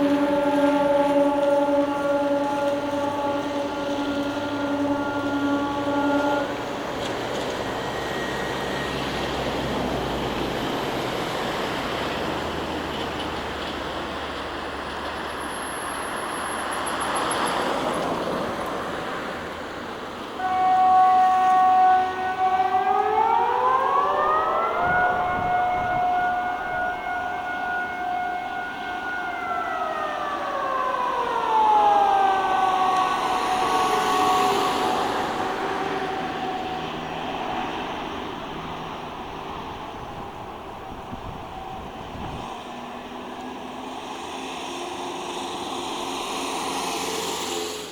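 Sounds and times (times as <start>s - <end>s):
civil defence sirens winding down: 0.0s - 47.9s
street traffic rushing: 0.0s - 47.9s.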